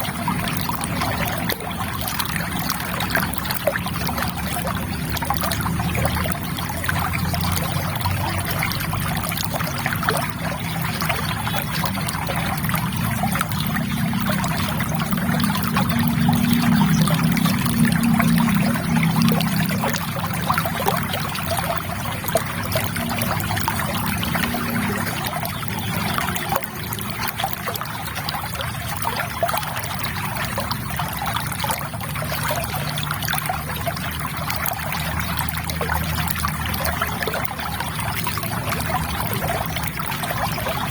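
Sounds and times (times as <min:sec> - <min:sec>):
river water trickling: 0:00.0 - 0:40.9.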